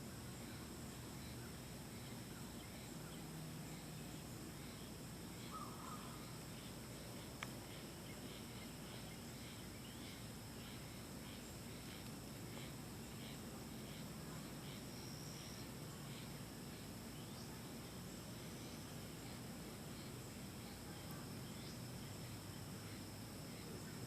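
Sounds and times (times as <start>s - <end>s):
high insect-like chirps: 0.0s - 24.0s
steady hiss: 0.0s - 24.0s.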